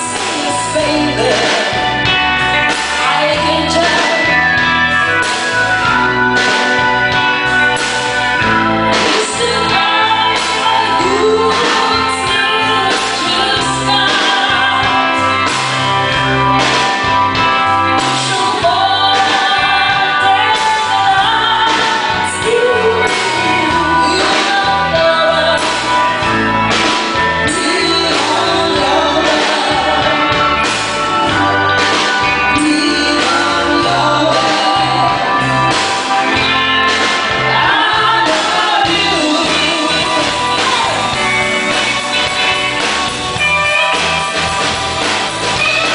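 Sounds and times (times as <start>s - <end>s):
live band with singer: 0.0s - 45.9s.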